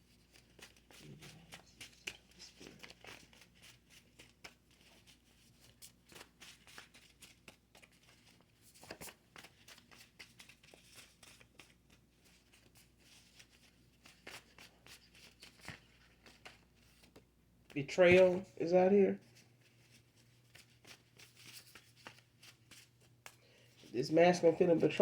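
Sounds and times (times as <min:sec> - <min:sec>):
cards rustling: 0:00.0 - 0:25.0.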